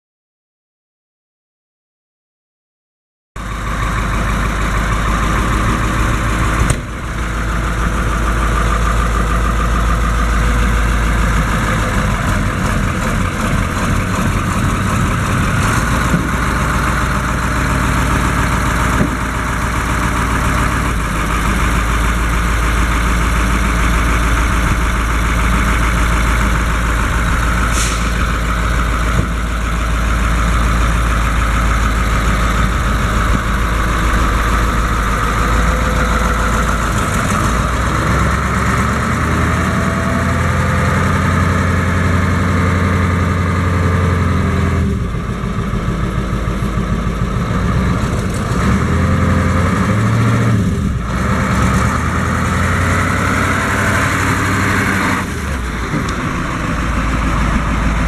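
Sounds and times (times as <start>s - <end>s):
diesel truck engine idling: 3.4s - 58.0s.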